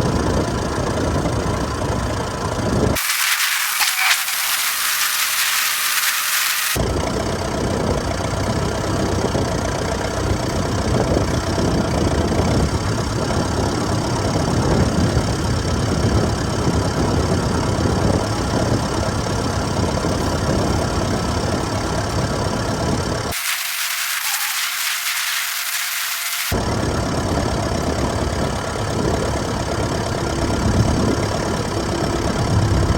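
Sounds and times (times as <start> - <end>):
tractor engine running under load: 0.0 - 32.9.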